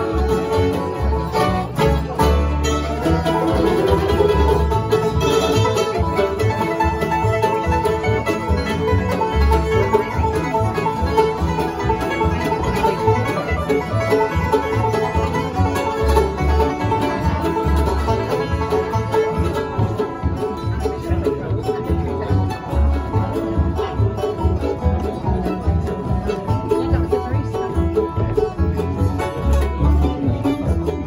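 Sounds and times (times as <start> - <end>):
acoustic guitar: 0.0 - 31.0
banjo: 0.0 - 31.0
fiddle: 0.0 - 31.0
resonator guitar: 0.0 - 31.0
upright bass plucking: 0.0 - 31.0.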